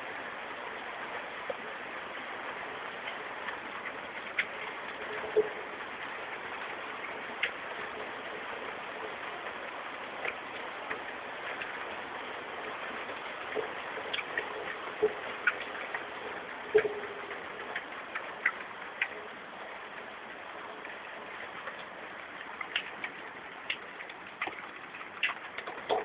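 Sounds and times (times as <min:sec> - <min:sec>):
rain falling: 0:00.0 - 0:26.0
raindrops tapping: 0:00.0 - 0:26.0.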